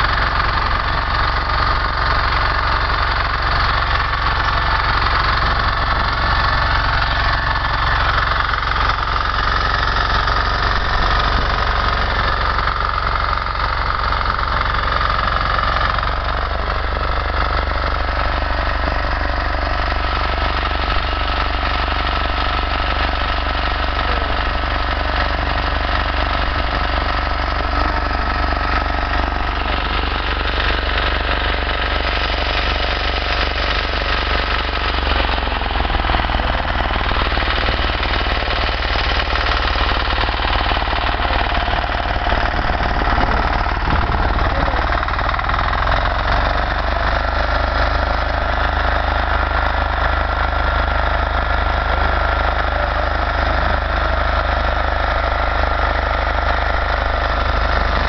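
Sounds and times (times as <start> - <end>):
power tiller engine running: 0.0 - 58.0.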